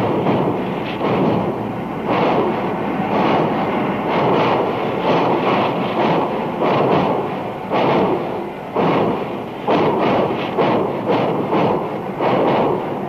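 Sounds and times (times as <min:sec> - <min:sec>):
steam locomotives chuffing: 0:00.0 - 0:13.0.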